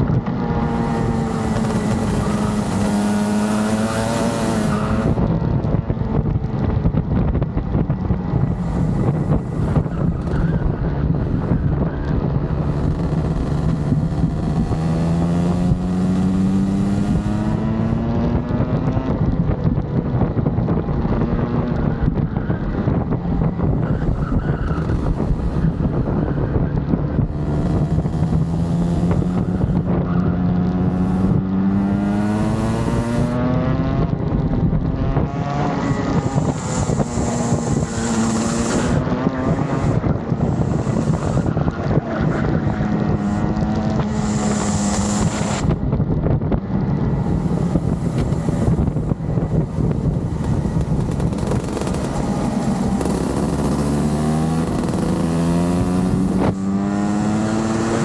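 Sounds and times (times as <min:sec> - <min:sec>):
kart engine running hard: 0:00.0 - 0:58.0
wind rushing over microphone: 0:00.0 - 0:58.0.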